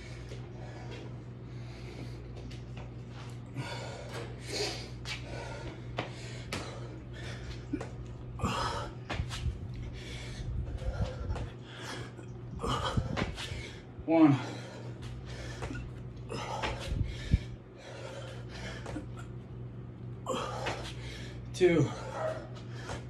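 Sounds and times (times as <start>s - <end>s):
man breathing hard and gasping: 0.0s - 2.4s, 3.4s - 19.3s, 20.2s - 23.0s
low hum: 0.0s - 23.0s.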